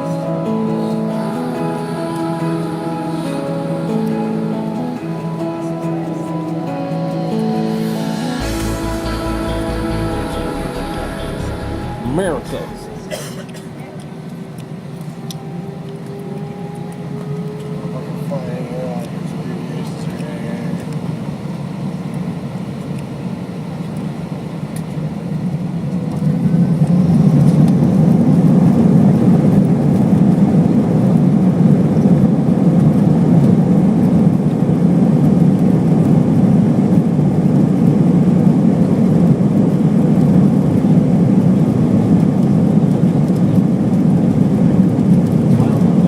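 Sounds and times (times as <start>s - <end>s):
jet engines rumbling: 0.0s - 46.0s.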